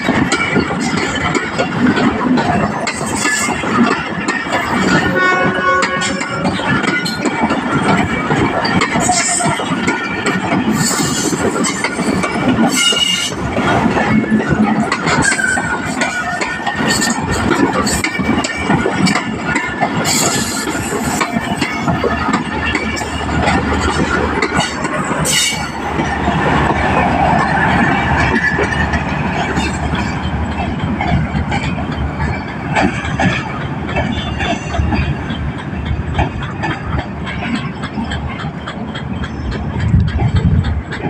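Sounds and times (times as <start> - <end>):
train wheels clattering over rail joints: 0.0 - 41.0.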